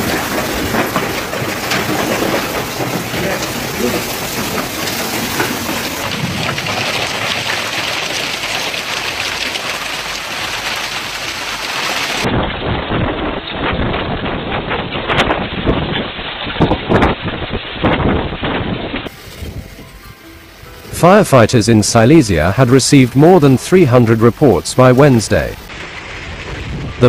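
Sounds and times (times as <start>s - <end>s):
hail and rain pelting down: 0.0s - 27.0s
low rumbling: 0.0s - 27.0s.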